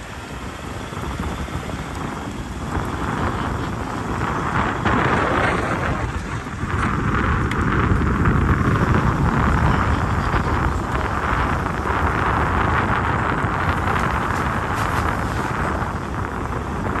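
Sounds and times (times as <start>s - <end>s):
vehicle rumbling on the move: 0.0s - 17.0s
wind on microphone: 0.0s - 17.0s.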